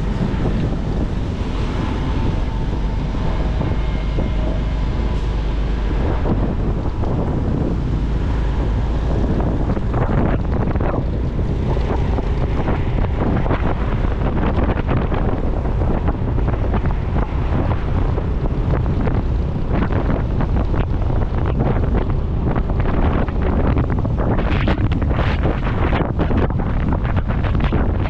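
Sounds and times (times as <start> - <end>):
road and engine noise: 0.0 - 28.0
wind buffeting microphone: 0.0 - 28.0.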